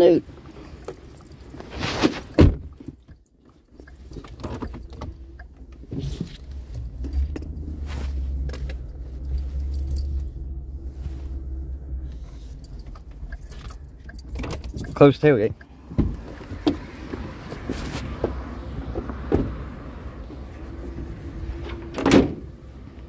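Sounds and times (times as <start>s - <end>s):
vehicle engine humming: 0.4s - 23.0s.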